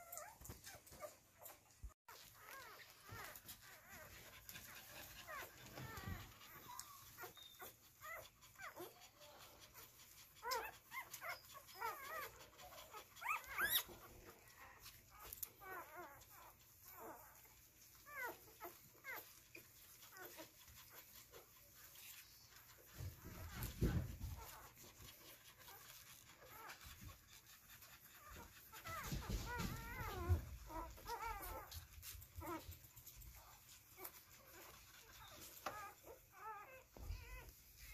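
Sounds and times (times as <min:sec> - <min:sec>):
puppies squeaking and whimpering: 0:00.0 - 0:37.9.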